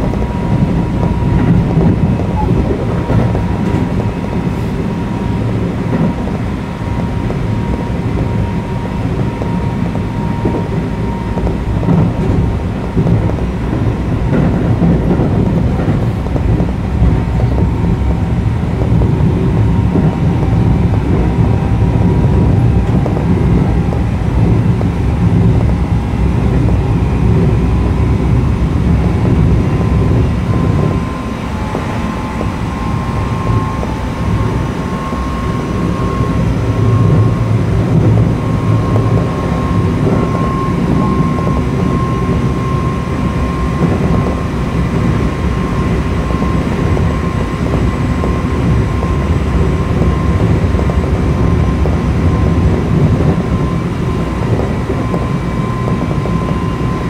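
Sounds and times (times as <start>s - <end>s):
electric train motor whine: 0.0s - 57.0s
wheels rumbling on rails: 0.0s - 57.0s.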